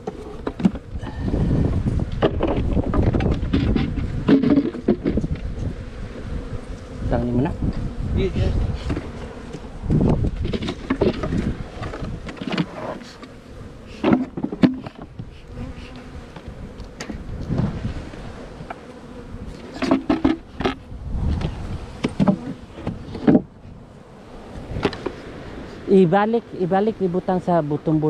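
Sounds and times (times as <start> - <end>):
bees flying past: 0.0 - 28.0
honeybees buzzing: 0.0 - 28.0.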